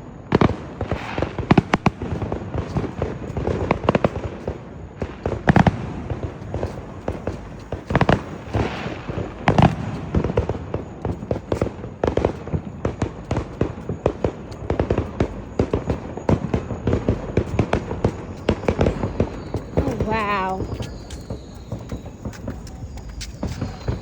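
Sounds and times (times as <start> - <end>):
firecrackers popping: 0.0 - 24.0
loud firework bangs: 0.2 - 24.0.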